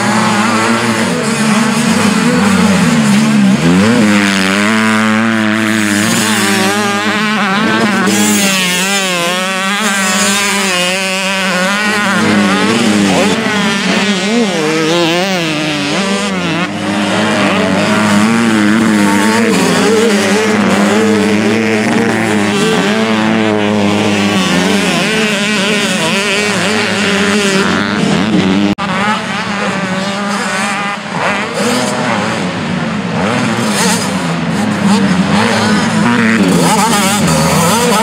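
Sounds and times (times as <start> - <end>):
motocross engines revving: 0.0 - 38.0.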